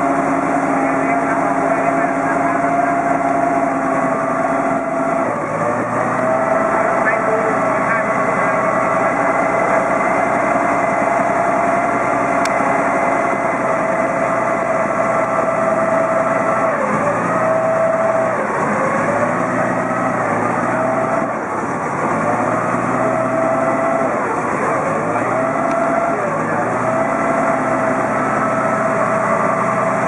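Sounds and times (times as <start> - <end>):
ferry engine running: 0.0 - 30.0.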